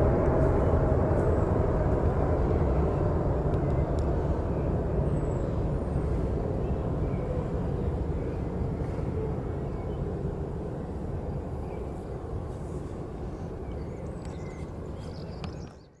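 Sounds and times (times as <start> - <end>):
distant jet engines rumbling: 0.0 - 14.0.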